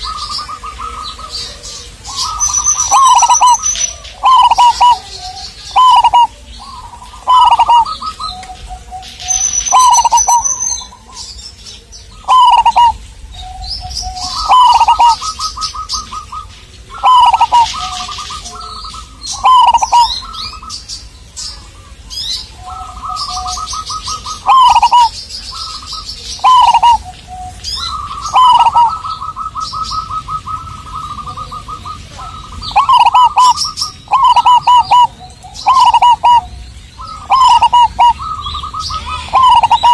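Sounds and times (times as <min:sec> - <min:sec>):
dove cooing: 0:00.0 - 0:20.7, 0:21.6 - 0:39.9
small birds chirping: 0:00.0 - 0:39.9.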